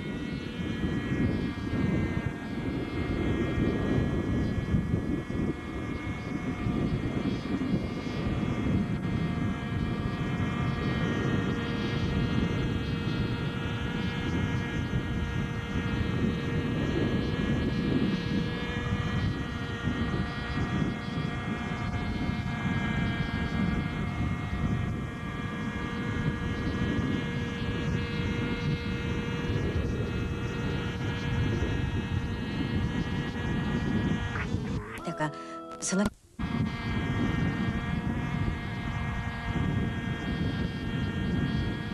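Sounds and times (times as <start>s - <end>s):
model helicopter engine whine: 0.0s - 34.8s, 36.4s - 41.9s.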